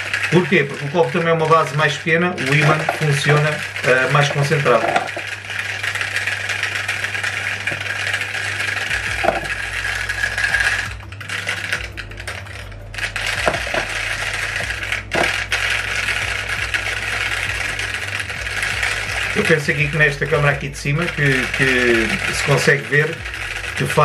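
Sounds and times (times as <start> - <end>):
magnet rattling in plastic cup: 0.0 - 24.0.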